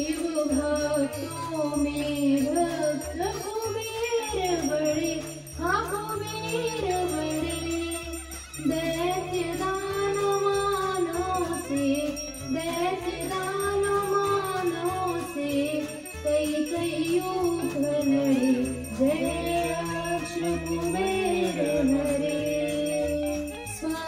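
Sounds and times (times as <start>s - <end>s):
instrumental backing with bass line: 0.0s - 24.0s
person singing: 0.0s - 24.0s.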